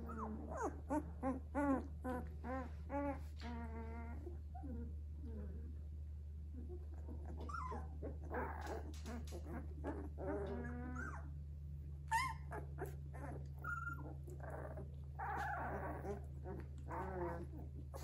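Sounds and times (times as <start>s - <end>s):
puppies whimpering and squealing: 0.0s - 4.9s, 6.6s - 11.4s, 12.1s - 18.0s
steady low hum: 0.0s - 18.0s.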